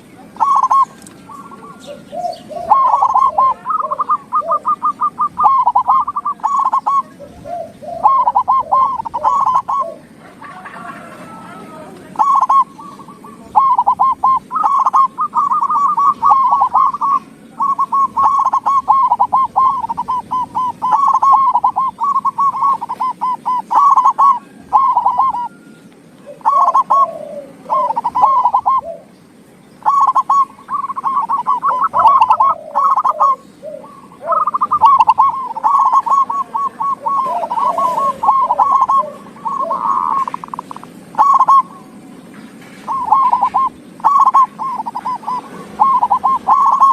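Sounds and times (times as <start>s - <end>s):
dove cooing: 0.0s - 29.2s, 29.8s - 46.9s.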